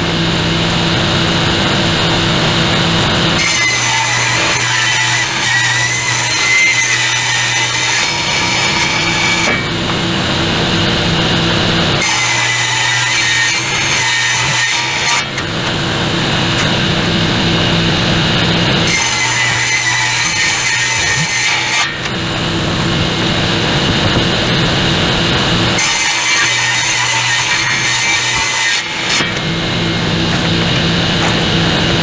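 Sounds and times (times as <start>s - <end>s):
table saw ripping wood: 0.0s - 32.0s.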